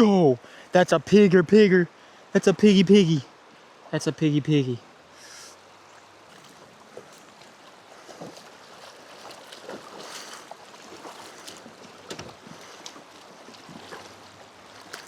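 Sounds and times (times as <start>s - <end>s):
river water splashing and lapping: 0.0s - 15.0s.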